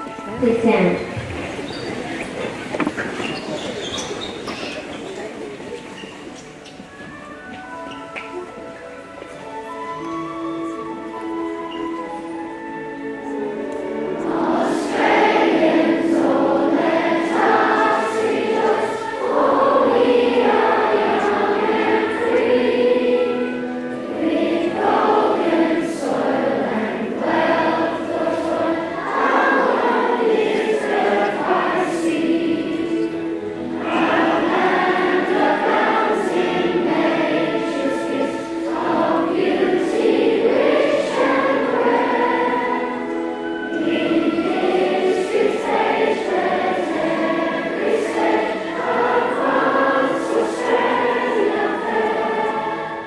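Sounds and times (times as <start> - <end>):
choir singing: 9.5 - 53.0.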